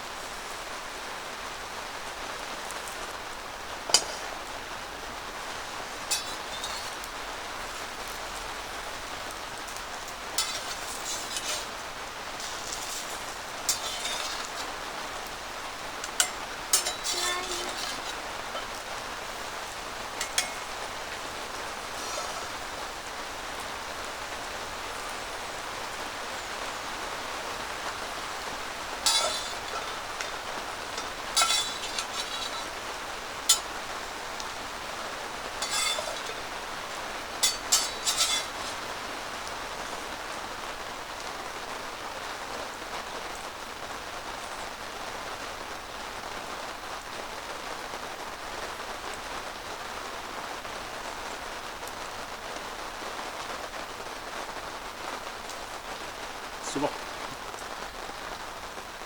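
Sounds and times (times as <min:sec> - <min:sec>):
rain on canvas roof: 0:00.0 - 0:59.0.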